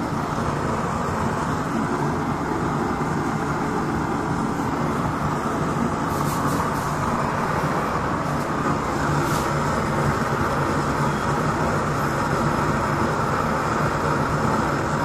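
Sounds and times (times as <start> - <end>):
stove burner flame rushing: 0.0 - 15.0.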